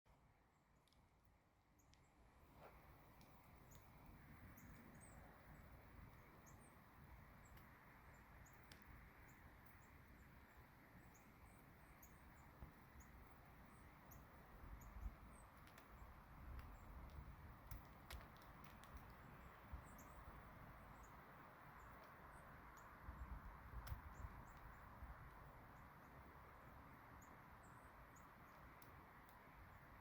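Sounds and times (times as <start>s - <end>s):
soft steady hiss: 0.1s - 30.0s
faint ticks: 1.8s - 6.7s, 7.4s - 7.8s, 8.4s - 26.2s, 27.0s - 30.0s
birds chirping: 3.2s - 30.0s.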